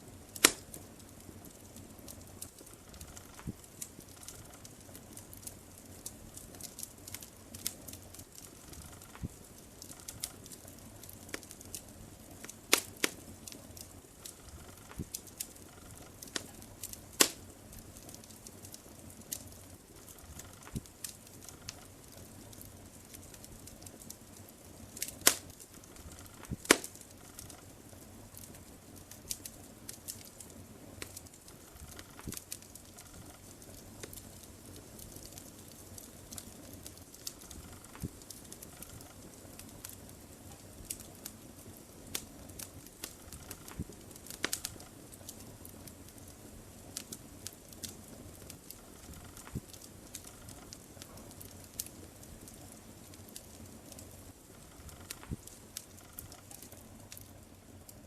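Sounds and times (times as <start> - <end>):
sharp pops and snaps of fire: 0.0 - 58.0
wood fire crackling: 0.0 - 58.0.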